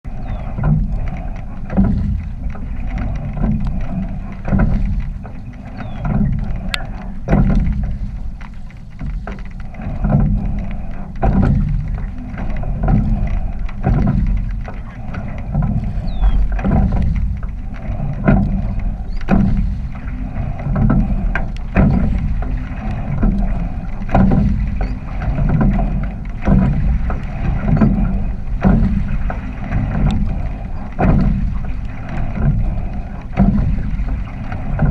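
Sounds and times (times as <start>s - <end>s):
oars knocking and splashing: 0.0s - 34.9s
water rushing along hull: 0.0s - 34.9s
wind on microphone: 0.0s - 34.9s.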